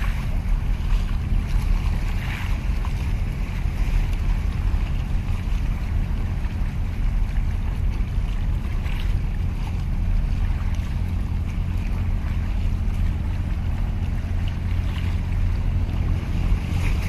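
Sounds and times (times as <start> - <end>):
sea waves washing against concrete: 0.0 - 17.0
wind buffeting microphone: 0.0 - 17.0.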